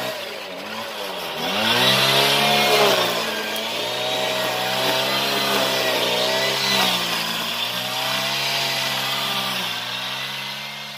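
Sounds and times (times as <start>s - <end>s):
brush cutter engine running: 0.0s - 10.9s.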